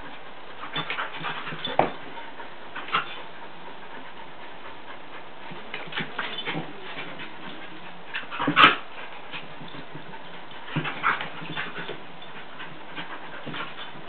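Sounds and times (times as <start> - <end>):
dogs play-fighting: 0.0 - 14.0.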